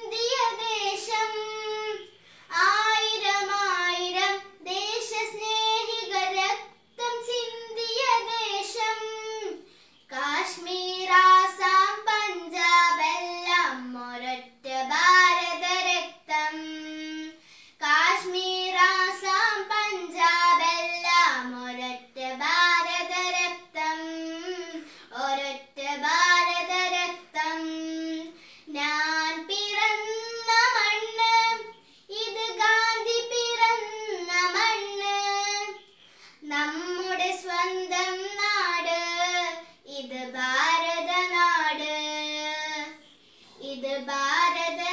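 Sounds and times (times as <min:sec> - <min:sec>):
girl singing unaccompanied: 0:00.0 - 0:44.9.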